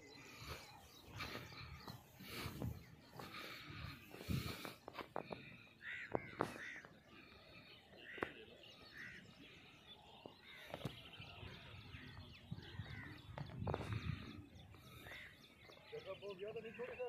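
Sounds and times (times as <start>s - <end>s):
harsh bird calls: 0.0s - 17.0s.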